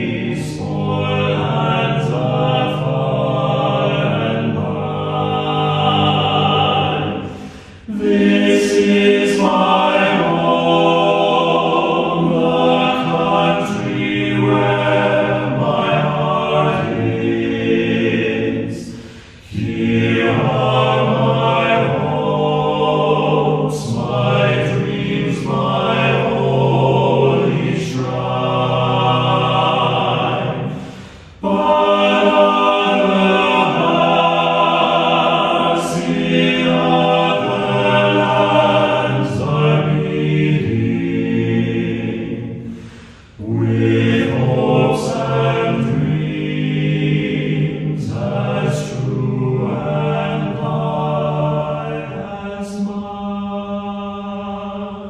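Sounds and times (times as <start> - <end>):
choir singing held chords: 0.0 - 55.0.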